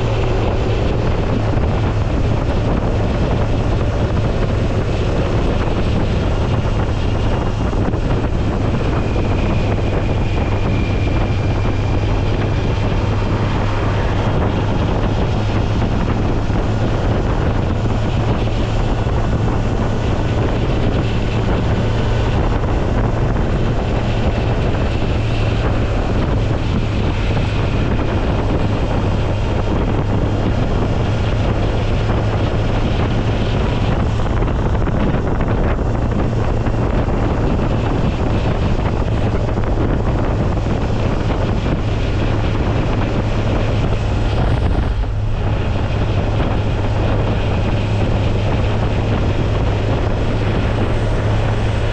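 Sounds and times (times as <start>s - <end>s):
motorcycle engine drone: 0.0s - 51.9s
wind noise on microphone: 0.0s - 51.9s.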